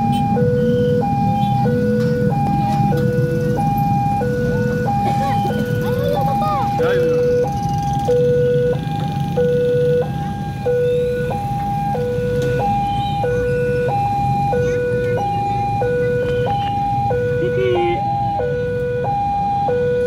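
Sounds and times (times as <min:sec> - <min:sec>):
low rumble of traffic: 0:00.0 - 0:20.0
two-tone electronic crossing alarm: 0:00.0 - 0:20.0.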